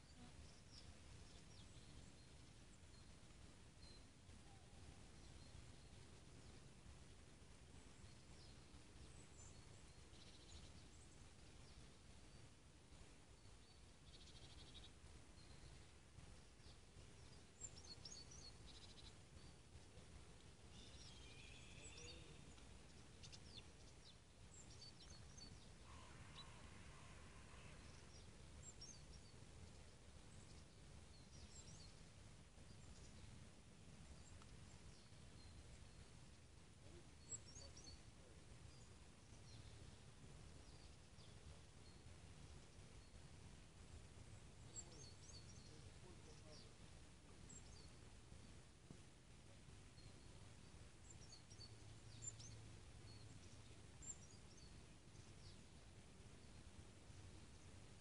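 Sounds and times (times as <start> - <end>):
faint birds chirping: 0.0 - 58.0
low steady rumble: 0.0 - 58.0.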